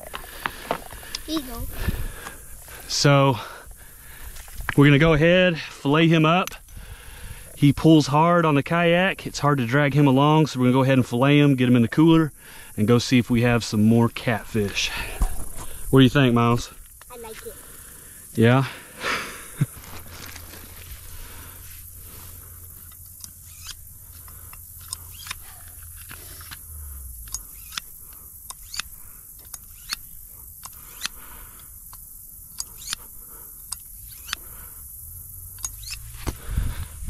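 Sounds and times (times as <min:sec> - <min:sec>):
steady high hiss: 0:00.0 - 0:37.0.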